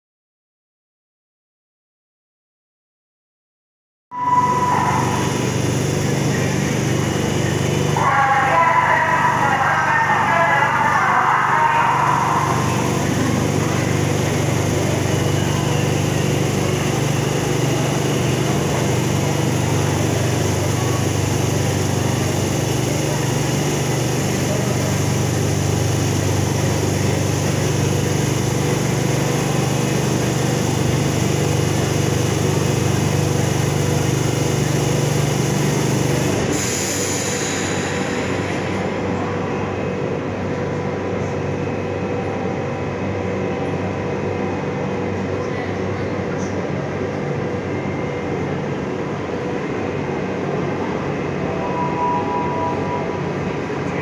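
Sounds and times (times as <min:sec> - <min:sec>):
electric train humming: 0:04.2 - 0:54.0
train rumble: 0:04.2 - 0:54.0.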